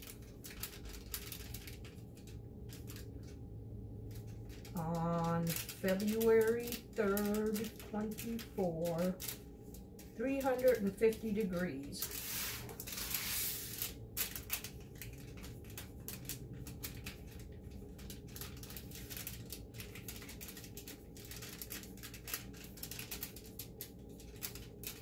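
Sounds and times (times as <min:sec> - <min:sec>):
foil rustling: 0:00.0 - 0:03.2, 0:04.2 - 0:25.0
marker scratching on foil: 0:04.8 - 0:25.0.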